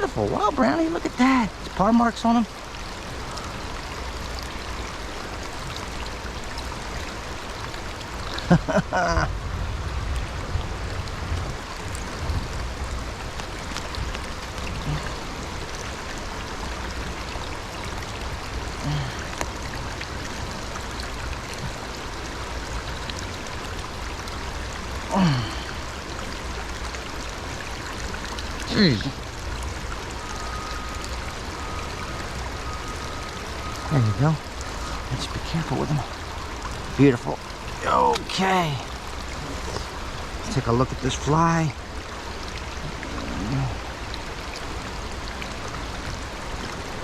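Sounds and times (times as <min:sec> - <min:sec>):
creek flowing: 0:00.0 - 0:47.0.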